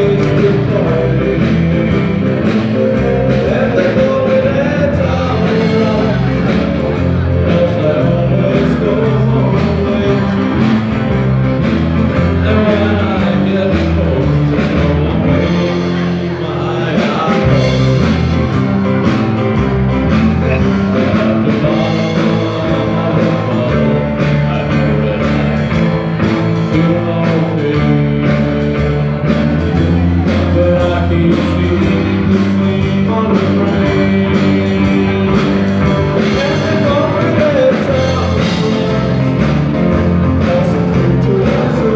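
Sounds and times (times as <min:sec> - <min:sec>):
drums: 0:00.0 - 0:41.9
guitar: 0:00.0 - 0:41.9
person singing: 0:00.0 - 0:41.9.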